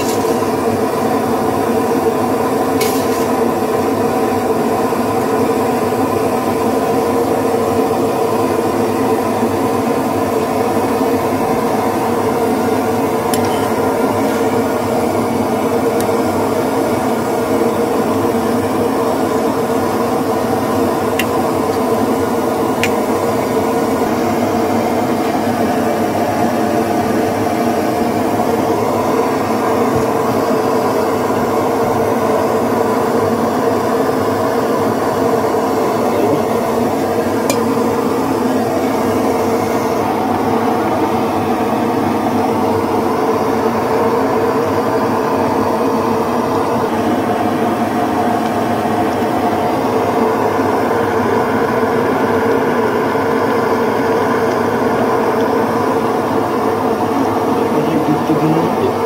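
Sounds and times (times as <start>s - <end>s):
loud steady drone: 0.0s - 59.0s.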